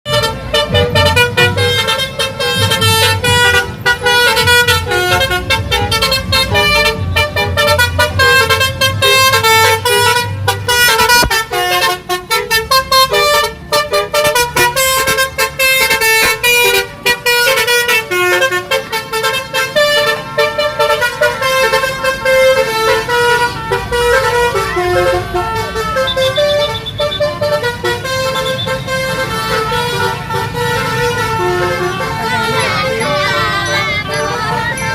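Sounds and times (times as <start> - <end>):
musical bus air horns: 0.0 - 34.9
engine rumble: 0.1 - 34.9.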